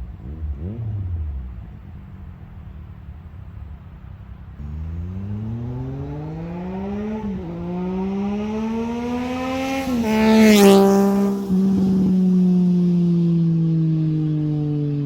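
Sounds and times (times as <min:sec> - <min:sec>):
motorcycle accelerating hard: 0:00.0 - 0:01.8, 0:04.6 - 0:15.0.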